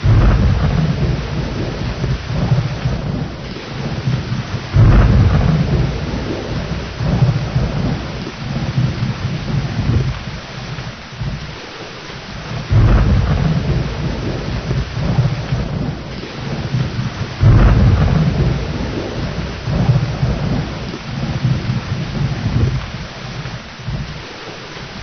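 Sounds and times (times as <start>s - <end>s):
steady rain falling: 0.0s - 25.0s
thunder rolling: 0.0s - 25.0s.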